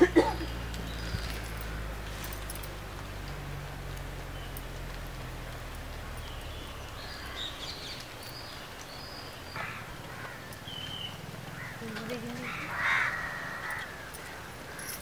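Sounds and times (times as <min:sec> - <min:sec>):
birds calling: 0:00.0 - 0:15.0
steady background hiss: 0:00.0 - 0:15.0.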